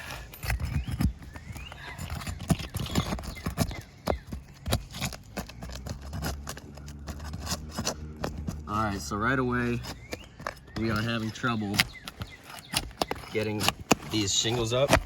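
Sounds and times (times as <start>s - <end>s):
roof tool prying at shingles: 0.0s - 15.0s.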